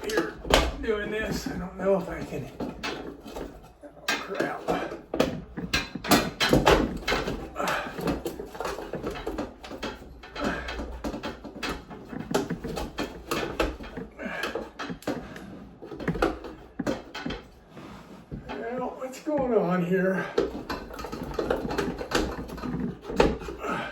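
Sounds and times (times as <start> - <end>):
fan housing knocking and scraping: 0.0 - 23.9.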